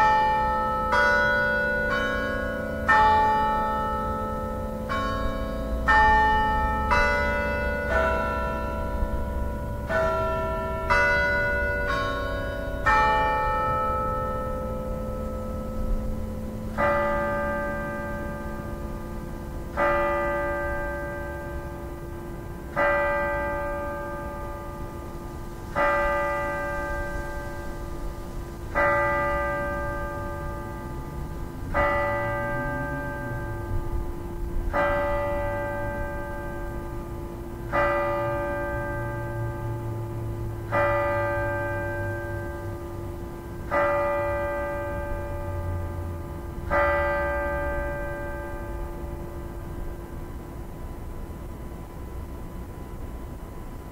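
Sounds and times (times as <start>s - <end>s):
tower bell tolling: 0.0s - 53.8s.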